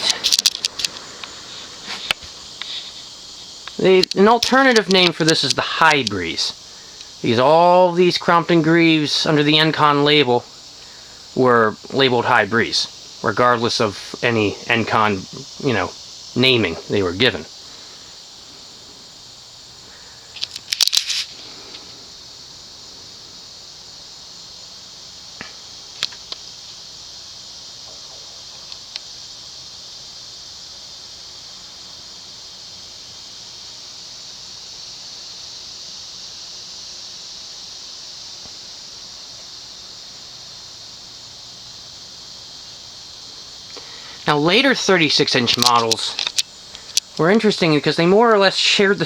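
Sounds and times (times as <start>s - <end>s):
ceiling fan coasting down: 0.0s - 49.0s
steady high hiss: 0.0s - 49.0s.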